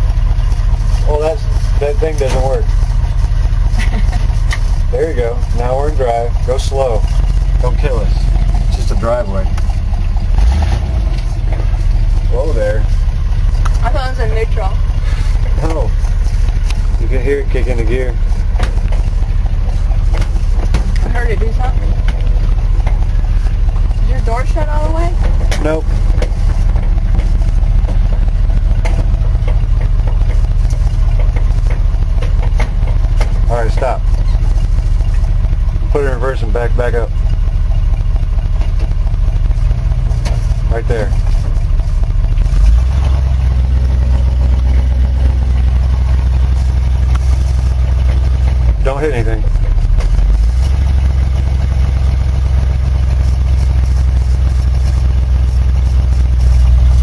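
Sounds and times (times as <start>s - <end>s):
truck engine low rumble: 0.0s - 57.0s.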